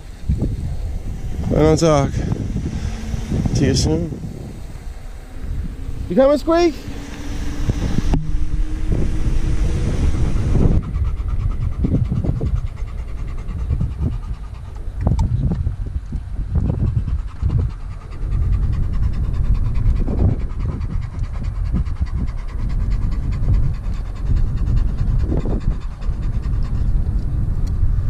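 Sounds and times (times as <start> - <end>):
dog panting: 0.0 - 15.2, 16.6 - 27.4
low rumble: 0.0 - 28.0.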